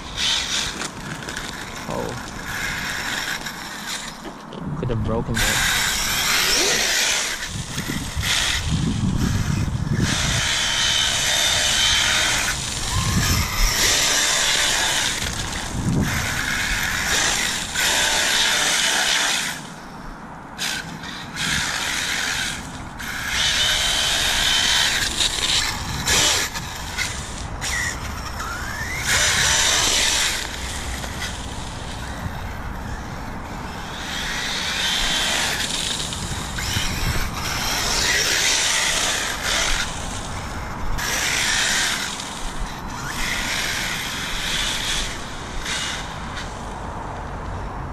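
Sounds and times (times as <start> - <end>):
electric motor whining: 0.0 - 4.4, 5.2 - 20.0, 20.6 - 46.8.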